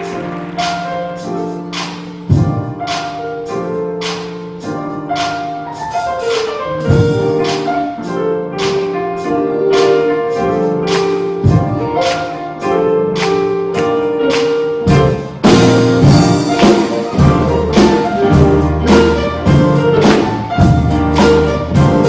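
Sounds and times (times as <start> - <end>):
piano-like chords over a beat: 0.0 - 22.0.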